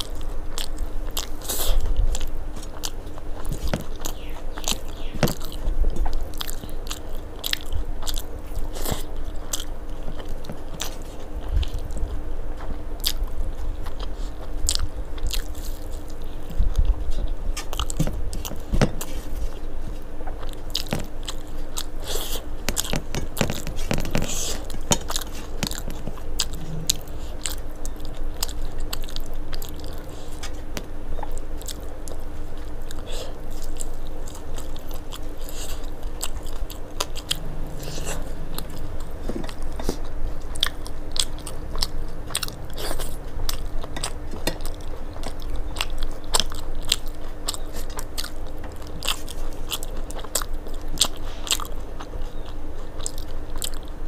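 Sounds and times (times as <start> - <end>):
food chewing and crunching: 0.0 - 54.0.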